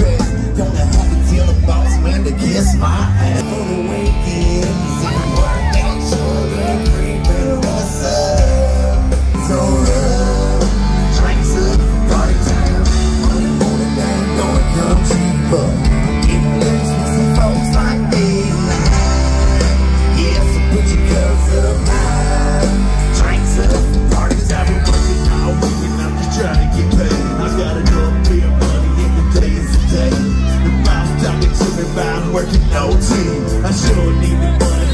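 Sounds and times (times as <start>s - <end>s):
live rock band playing: 0.0s - 34.9s.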